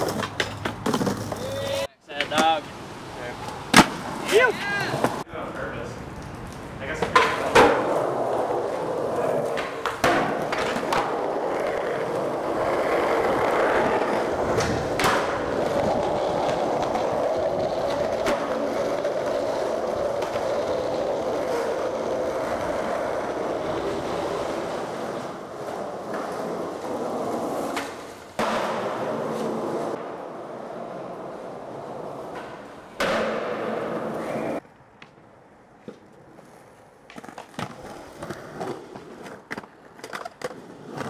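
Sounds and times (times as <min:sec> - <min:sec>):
skateboard clacks: 0:00.0 - 0:02.6, 0:06.2 - 0:41.0
skateboard wheels rolling on concrete: 0:00.0 - 0:41.0.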